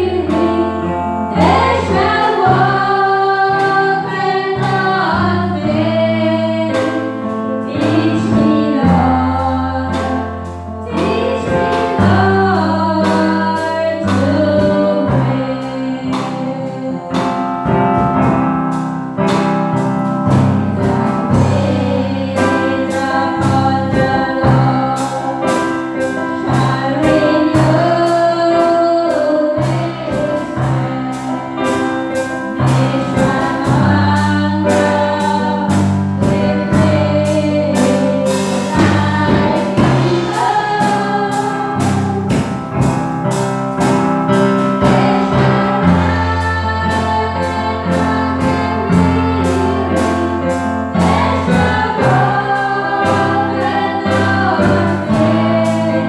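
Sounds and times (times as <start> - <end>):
drums: 0.0 - 56.0
keyboard: 0.0 - 56.0
singers singing gospel song: 0.0 - 56.0.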